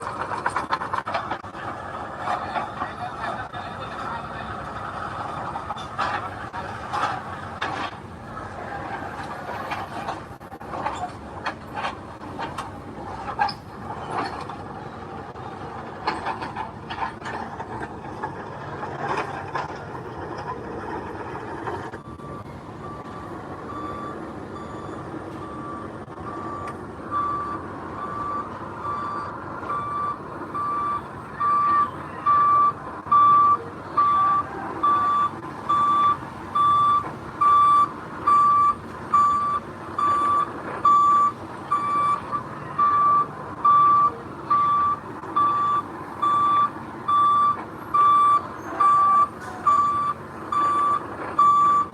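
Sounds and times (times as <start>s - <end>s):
truck engine running: 0.0s - 51.9s
truck reversing alarm beeping: 0.0s - 51.9s.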